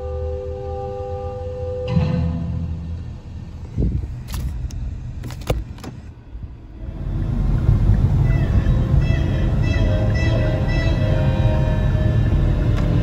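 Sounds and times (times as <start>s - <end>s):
car road and engine rumble: 1.5s - 13.0s.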